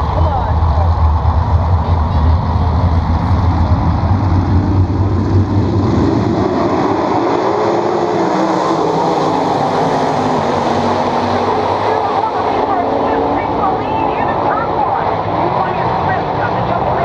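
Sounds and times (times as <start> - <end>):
racing car engines passing by: 0.0 - 17.0.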